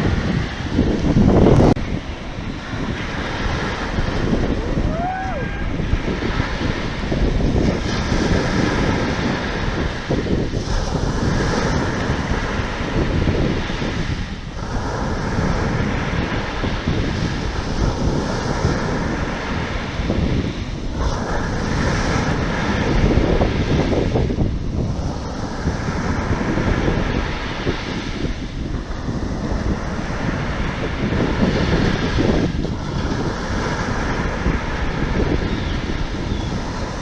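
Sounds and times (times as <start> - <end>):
sea waves rushing: 0.0 - 37.0
wind buffeting microphone: 0.0 - 37.0.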